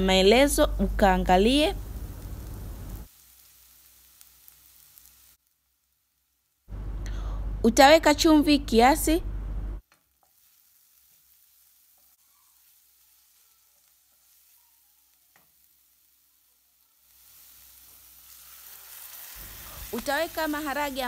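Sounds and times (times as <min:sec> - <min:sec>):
vegetables sizzling: 0:00.0 - 0:07.0, 0:09.8 - 0:21.0.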